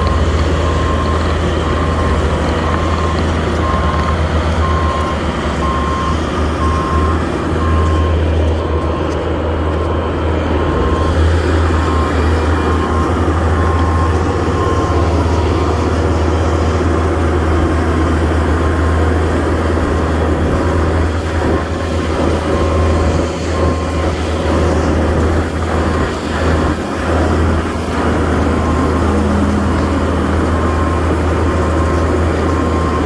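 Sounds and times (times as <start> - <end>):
skid steer engine droning: 0.0 - 33.0.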